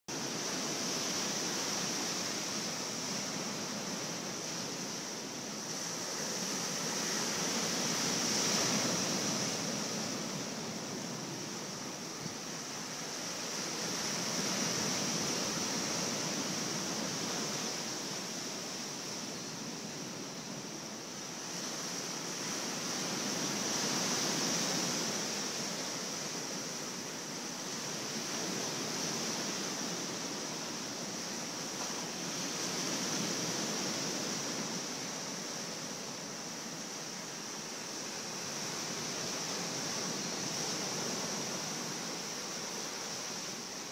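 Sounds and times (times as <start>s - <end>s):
sea surf washing ashore: 0.1s - 43.9s.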